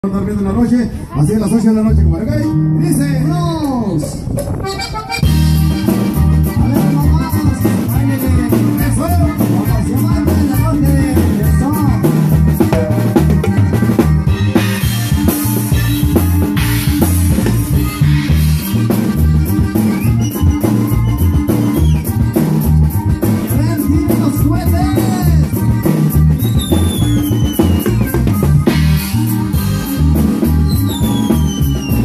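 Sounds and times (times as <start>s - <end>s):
electric bass: 0.0s - 32.0s
electric guitar: 1.8s - 32.0s
drum kit beat: 4.0s - 32.0s.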